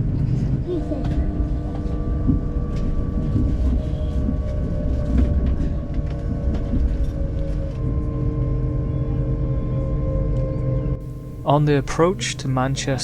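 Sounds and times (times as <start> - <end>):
train rumbling inside carriage: 0.0 - 13.0.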